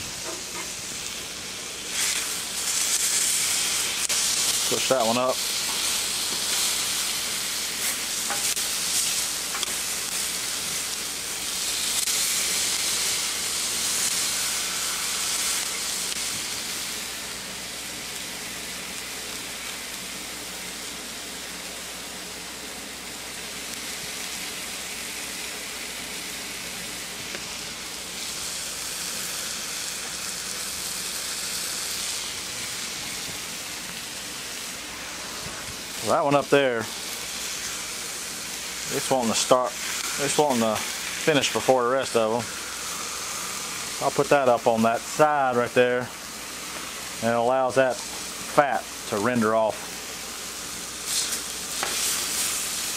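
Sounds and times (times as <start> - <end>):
meat sizzling on a griddle: 0.0 - 52.9.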